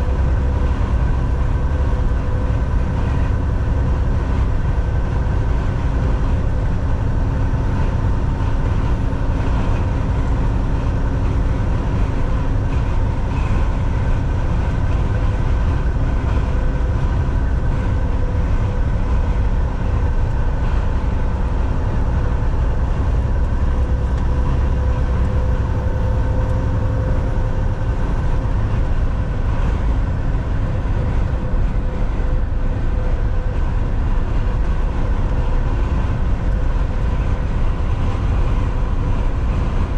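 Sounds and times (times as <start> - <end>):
constant tonal hum: 0.0 - 39.9
truck engine and road rumble: 0.0 - 39.9.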